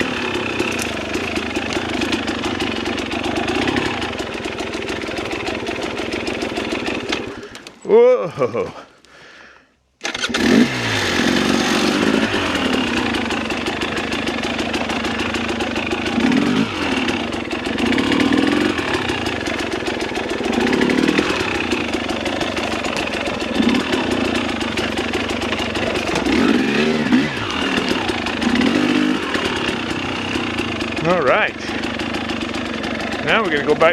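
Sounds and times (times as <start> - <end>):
dirt bike engine revving: 0.0 - 7.6, 10.0 - 33.9.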